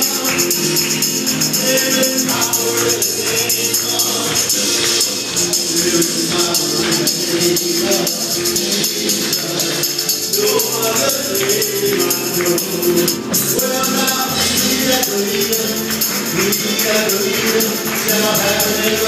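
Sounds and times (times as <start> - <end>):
gospel band with keyboard and drums: 0.0 - 19.0
percussion shimmer: 0.0 - 19.0
voices singing: 0.0 - 19.0.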